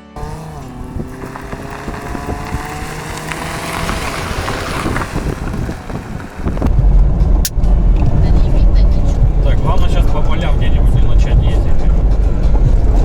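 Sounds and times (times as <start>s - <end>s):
car engine accelerating: 0.0s - 13.0s
wind and road noise: 0.0s - 13.0s.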